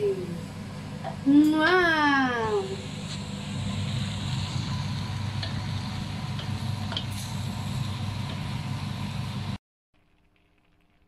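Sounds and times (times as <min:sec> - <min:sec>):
low hum: 0:00.0 - 0:10.8
wok sizzling: 0:00.0 - 0:11.0.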